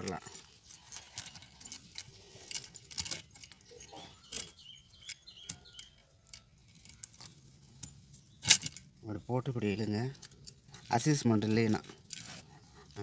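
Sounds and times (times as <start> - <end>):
chain links clinking on metal: 0.0 - 9.0, 9.7 - 13.0.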